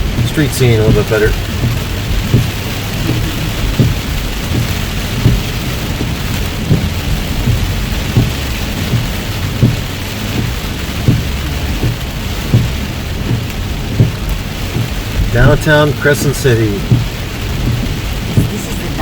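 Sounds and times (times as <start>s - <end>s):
low road rumble: 0.0s - 19.0s
rain on a car: 0.0s - 19.0s
windshield wipers thumping: 0.0s - 19.0s.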